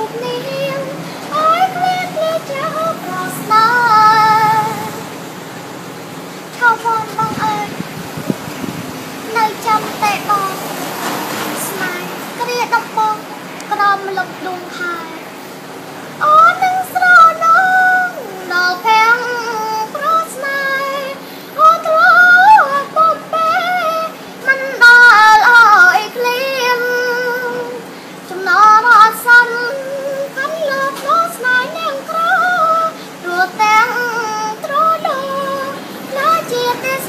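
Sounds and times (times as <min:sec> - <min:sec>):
girl singing: 0:00.0 - 0:05.2, 0:06.5 - 0:15.4, 0:16.2 - 0:37.0.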